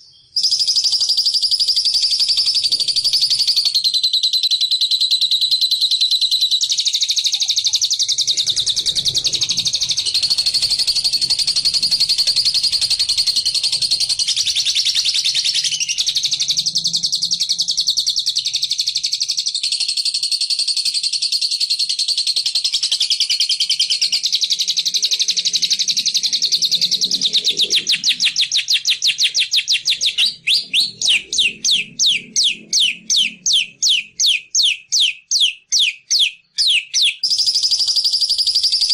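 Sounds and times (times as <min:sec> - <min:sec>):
bird trilling and chirping: 0:00.0 - 0:38.9.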